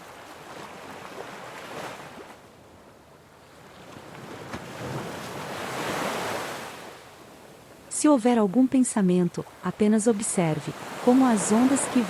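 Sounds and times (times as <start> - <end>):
ocean waves breaking on shore: 0.0 - 12.0.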